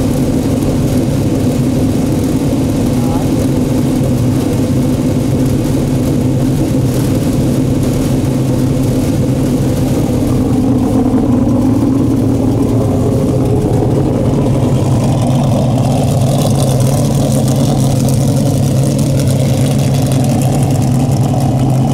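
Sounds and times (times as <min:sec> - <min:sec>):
race car engine idling: 0:00.0 - 0:21.9.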